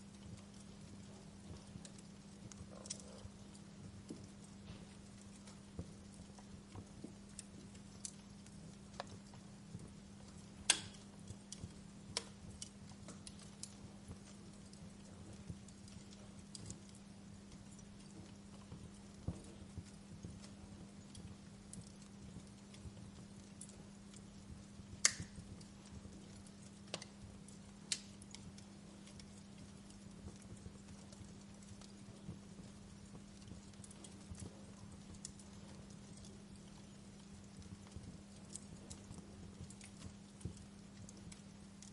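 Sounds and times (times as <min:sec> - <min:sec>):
faint low hum: 0:00.0 - 0:41.9
fire crackling: 0:00.0 - 0:41.9.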